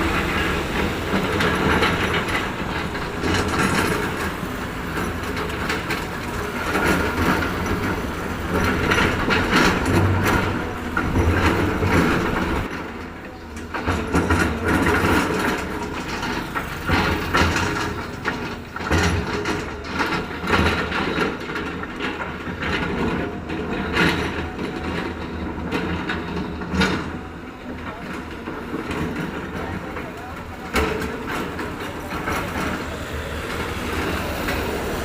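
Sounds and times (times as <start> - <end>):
heavy machinery rumbling: 0.0 - 35.0
machinery clanks and knocks: 0.0 - 35.0.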